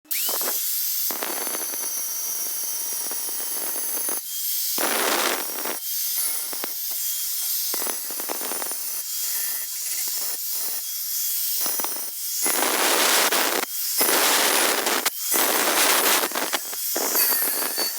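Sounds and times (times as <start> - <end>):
angle grinder cutting tile: 0.1 - 17.9.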